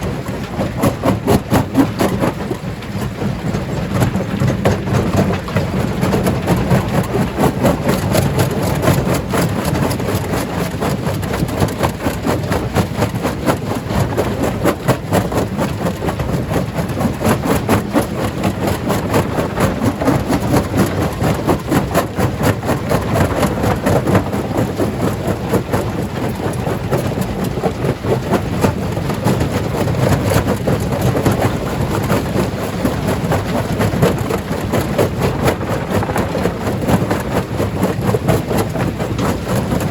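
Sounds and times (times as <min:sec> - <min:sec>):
stone crusher machine rumble: 0:00.0 - 0:39.9.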